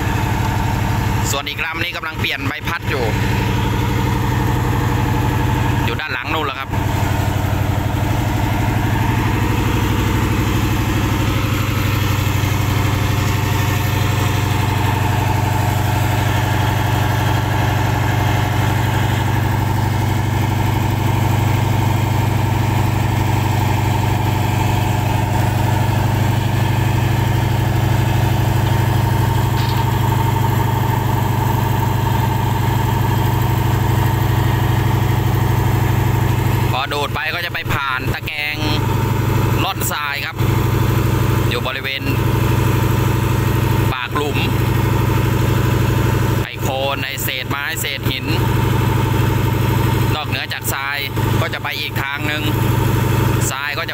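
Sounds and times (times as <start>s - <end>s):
engine low drone: 0.0s - 53.9s.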